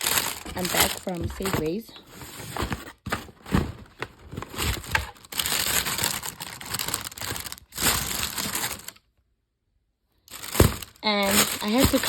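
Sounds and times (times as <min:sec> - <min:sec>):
rustling and crinkling: 0:00.0 - 0:09.0, 0:10.3 - 0:12.0.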